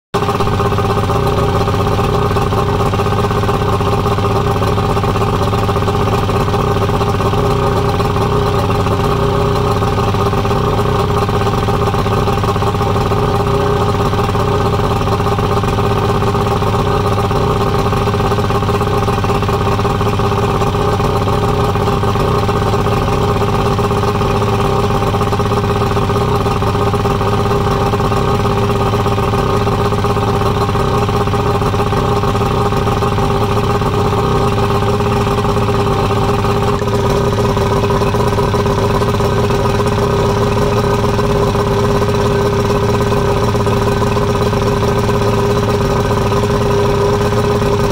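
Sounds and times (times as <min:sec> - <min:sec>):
outboard motor idling: 0:00.1 - 0:47.9.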